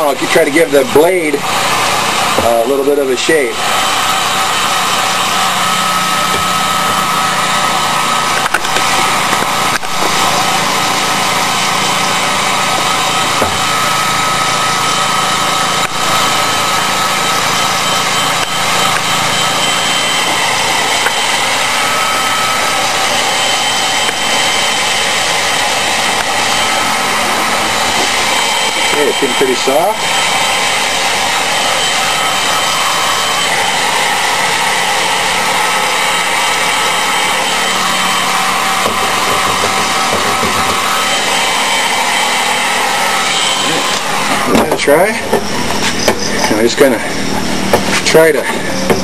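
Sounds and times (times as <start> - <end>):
heat gun blowing air: 0.0 - 49.0.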